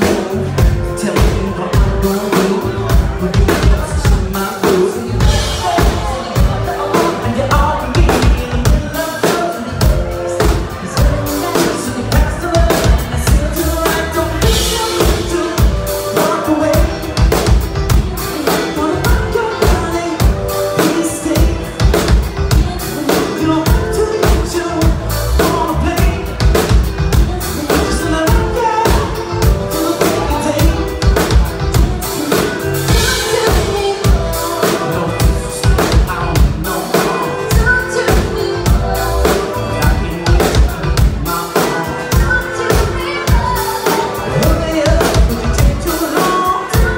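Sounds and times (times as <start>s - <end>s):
bass guitar: 0.0s - 46.9s
drum kit steady beat: 0.0s - 46.9s
keyboard: 0.0s - 46.9s
man and woman singing: 0.0s - 46.9s.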